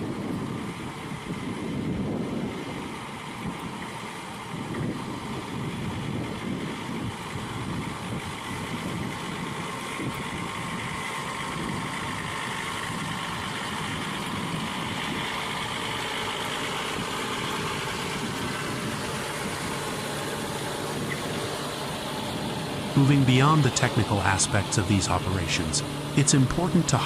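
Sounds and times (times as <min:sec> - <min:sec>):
heavy vehicle engine running: 0:00.0 - 0:27.0.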